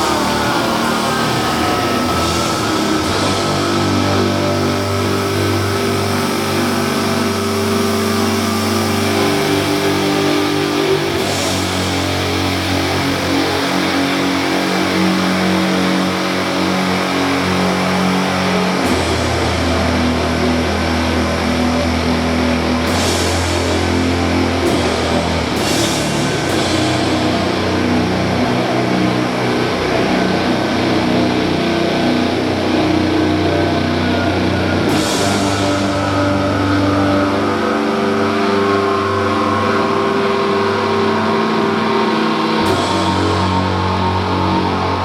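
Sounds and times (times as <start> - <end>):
heavily distorted guitars and bass: 0.0 - 45.0.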